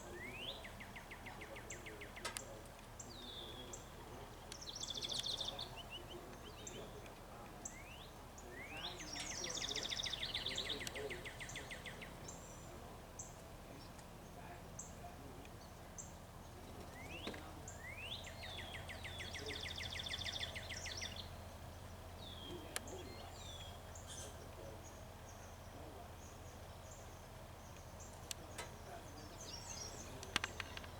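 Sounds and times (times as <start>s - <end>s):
low background hum: 0.0s - 30.9s
wild birds chirping: 0.0s - 30.9s.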